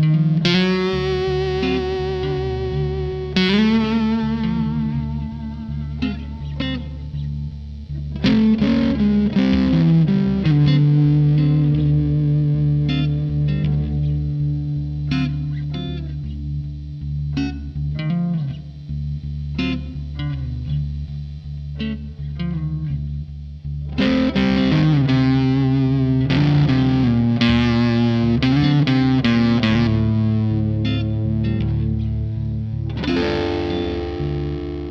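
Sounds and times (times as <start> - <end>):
fuzz electric guitar: 0.0 - 34.9.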